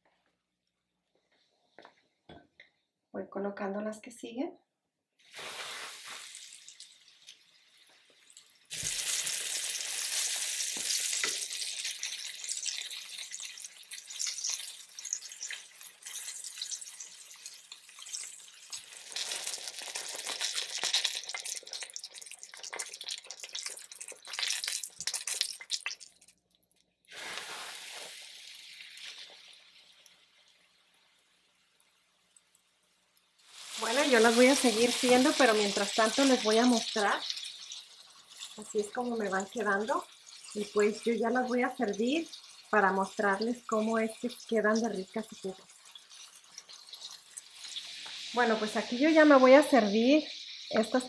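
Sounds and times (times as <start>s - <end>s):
oil sizzling in a skillet: 5.2s - 26.4s, 27.0s - 51.0s.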